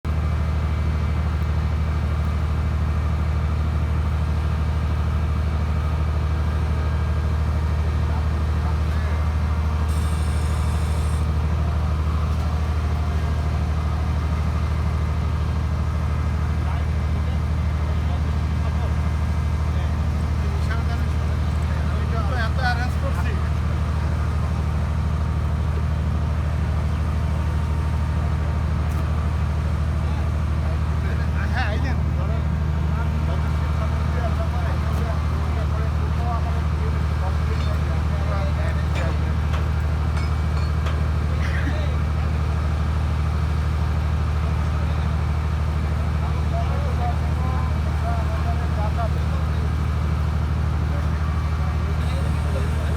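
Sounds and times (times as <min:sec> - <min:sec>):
heavy engine droning: 0:00.1 - 0:52.9.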